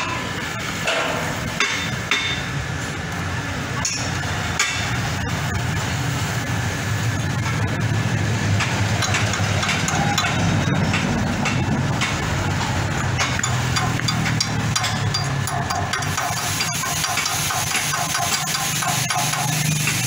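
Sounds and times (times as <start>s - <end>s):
engine running with low hum: 0.0s - 20.0s.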